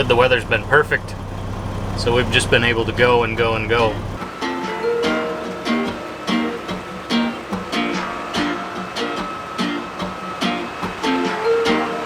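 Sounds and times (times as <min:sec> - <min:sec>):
strummed guitar: 0:00.0 - 0:12.0.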